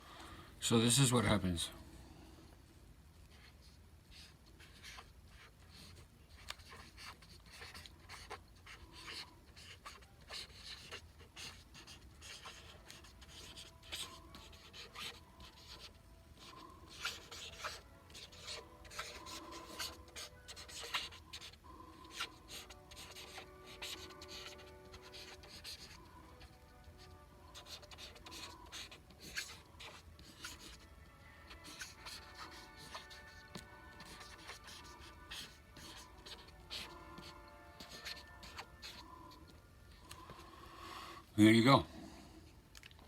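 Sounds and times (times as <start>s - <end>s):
pen scratching on paper: 3.3s - 39.5s.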